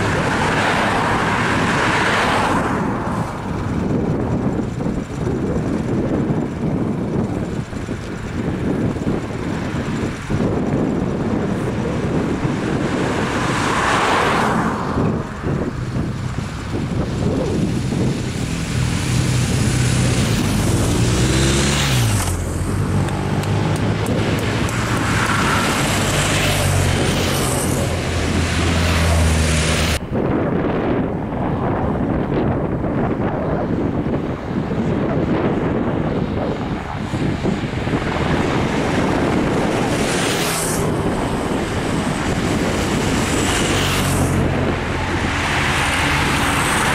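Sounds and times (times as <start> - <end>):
motor vehicles passing: 0.0 - 46.9
wind rush on microphone: 0.0 - 46.9
motorcycle engine running loudly: 2.8 - 13.6, 14.9 - 30.0, 32.5 - 46.9.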